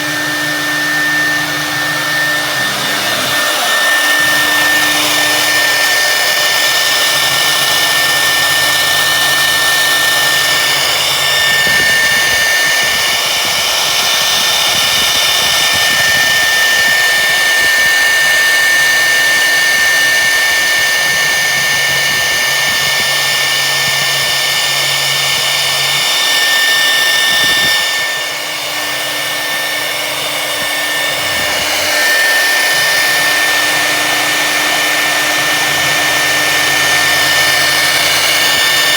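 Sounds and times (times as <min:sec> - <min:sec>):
lower motor tones: 0:00.0 - 0:38.9
router high whine: 0:00.0 - 0:38.9.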